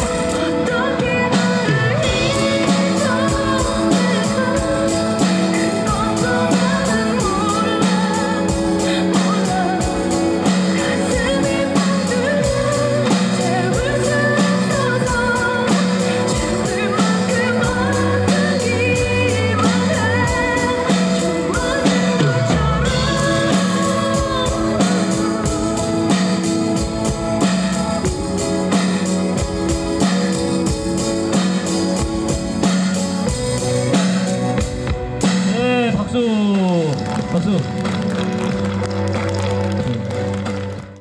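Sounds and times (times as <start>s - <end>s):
person singing: 0.0s - 34.6s
drums and cymbals beat: 0.0s - 39.8s
pop ballad backing track: 0.0s - 41.0s.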